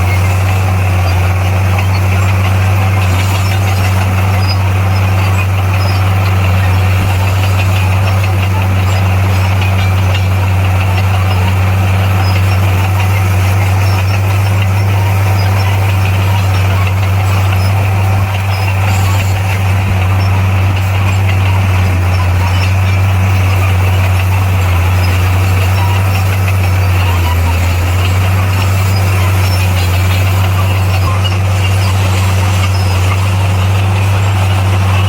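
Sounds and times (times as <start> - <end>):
bulldozer diesel engine drone: 0.0 - 35.0.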